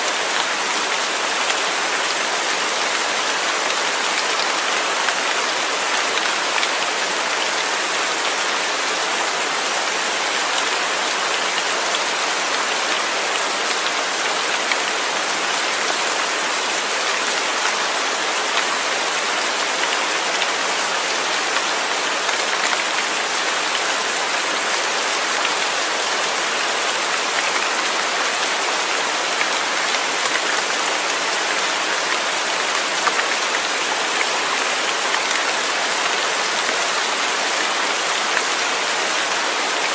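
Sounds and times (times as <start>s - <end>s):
heavy rain pattering: 0.1s - 39.9s.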